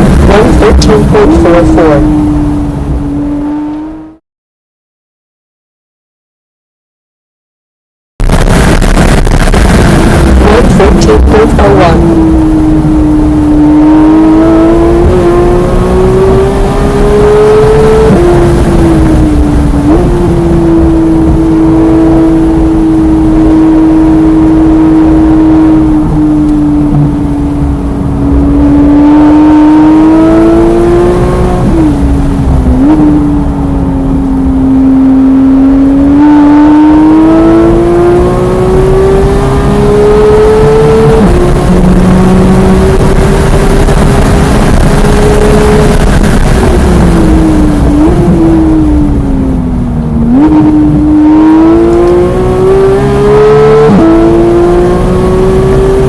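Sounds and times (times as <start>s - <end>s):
sports car engine revving: 0.0s - 4.2s, 8.5s - 56.0s.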